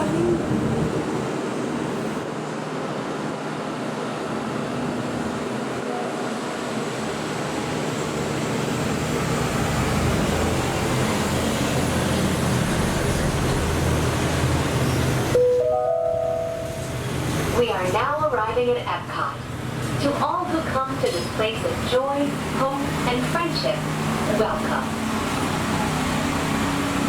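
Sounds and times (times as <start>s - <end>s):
gondola cabin rushing noise: 0.0s - 15.4s, 16.0s - 27.0s.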